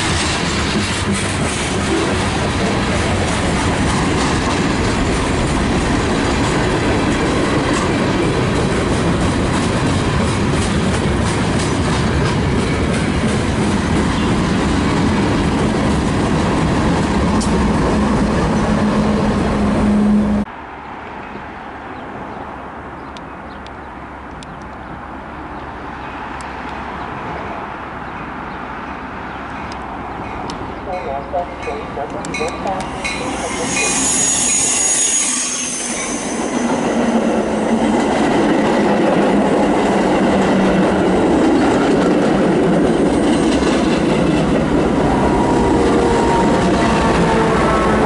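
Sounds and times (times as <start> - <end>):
train wheels on rails: 0.0 - 20.5, 29.4 - 48.0.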